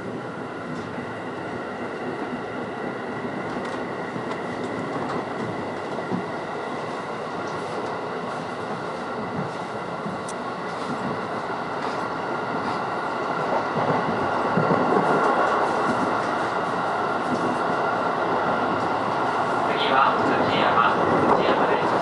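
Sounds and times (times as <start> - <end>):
electric train running rumble: 0.0 - 22.0.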